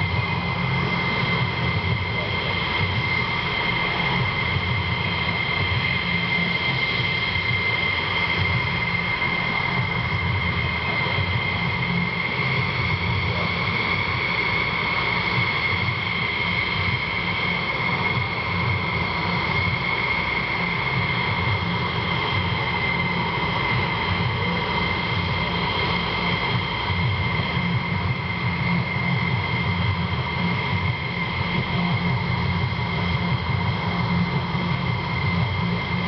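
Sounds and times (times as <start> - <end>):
jet engines idling: 0.0 - 36.0.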